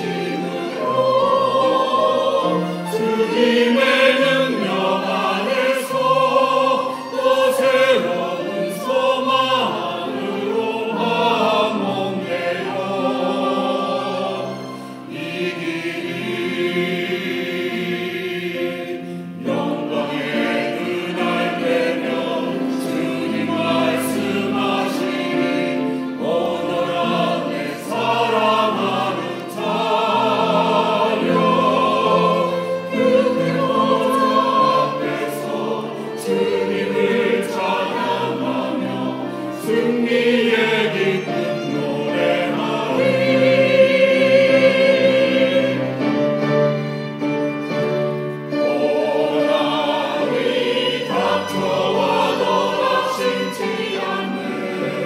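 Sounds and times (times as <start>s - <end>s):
mixed choir singing: 0.0s - 55.0s
piano accompaniment: 0.0s - 55.0s.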